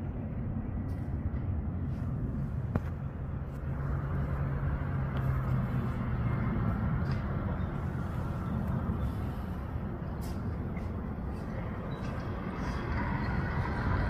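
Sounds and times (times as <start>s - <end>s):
engine hum: 0.0s - 14.0s
traffic rumble: 0.0s - 14.0s.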